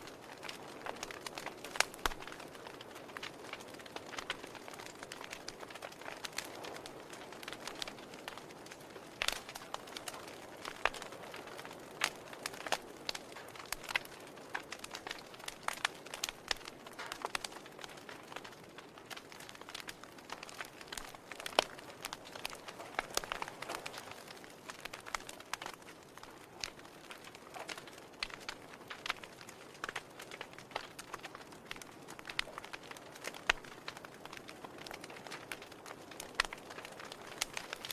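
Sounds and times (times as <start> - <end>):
soft steady hiss: 0.0 - 37.9
wood fire crackling and popping: 0.0 - 37.9.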